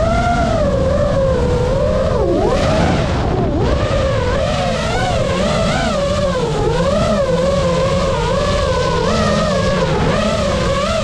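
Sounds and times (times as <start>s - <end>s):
drone motors whining: 0.0s - 11.0s
prop wash and wind rush: 0.0s - 11.0s.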